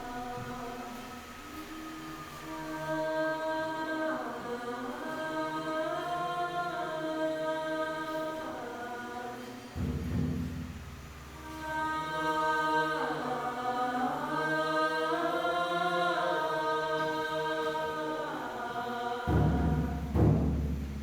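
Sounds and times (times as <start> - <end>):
voices singing chant-like notes: 0.0 - 10.3, 11.2 - 20.6.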